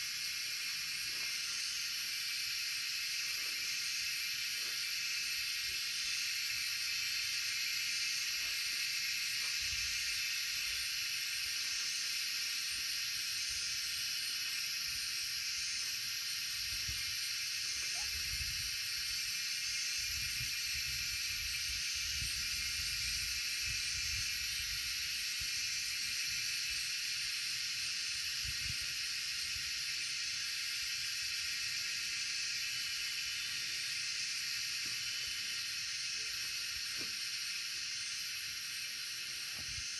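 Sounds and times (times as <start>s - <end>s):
high-pitched hiss: 0.0s - 39.9s.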